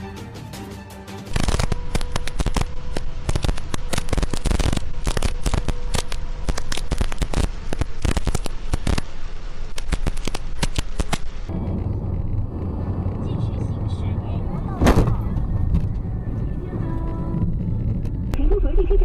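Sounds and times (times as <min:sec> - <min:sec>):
heavy rain on car: 0:01.4 - 0:18.3.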